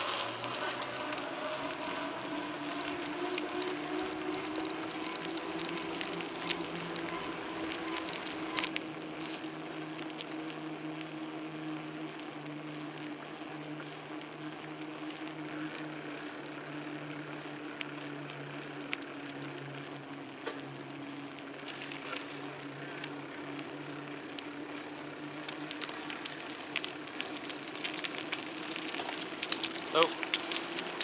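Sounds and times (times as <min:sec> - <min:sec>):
bicycle rattles and clicks: 0:00.0 - 0:31.0
bicycle tyre hum: 0:00.0 - 0:31.0.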